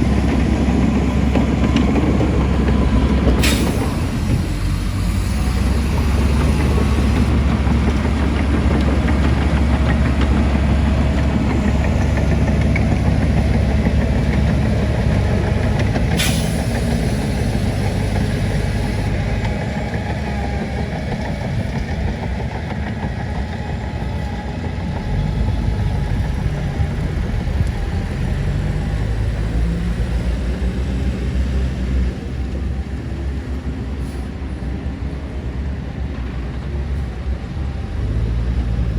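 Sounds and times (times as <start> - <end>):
diesel engine rumble: 0.0 - 38.9.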